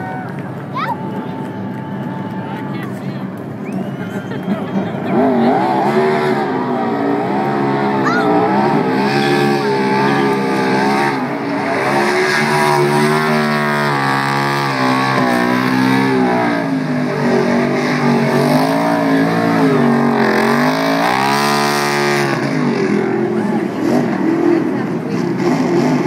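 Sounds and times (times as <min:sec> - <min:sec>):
tires spinning on pavement: 0:00.0 - 0:26.0
car engine revving: 0:03.3 - 0:26.0.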